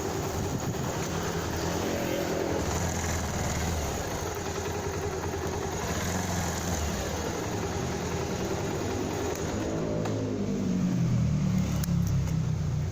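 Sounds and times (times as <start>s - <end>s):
motorcycle engine running: 0.0s - 12.9s
road and wind noise: 0.0s - 12.9s.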